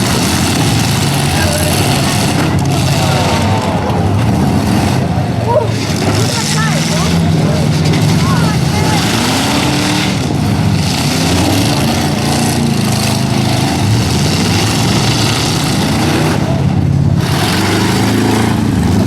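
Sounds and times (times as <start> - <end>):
pickup truck engines revving: 0.0 - 19.0.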